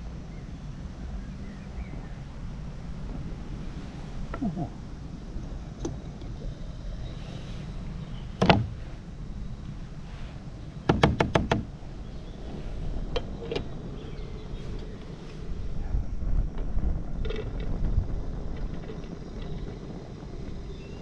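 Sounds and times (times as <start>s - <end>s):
steady low rumble: 0.0s - 10.9s, 11.6s - 21.0s.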